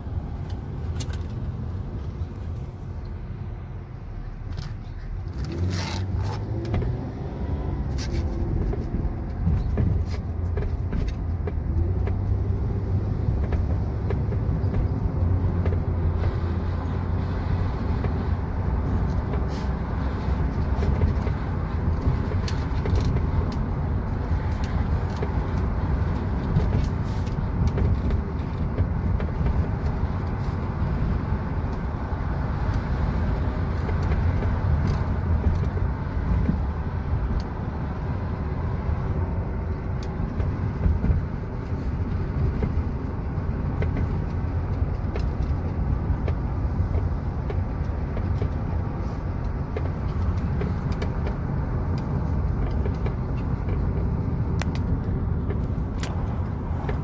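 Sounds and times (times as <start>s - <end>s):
road and engine rumble in car: 0.0s - 57.0s.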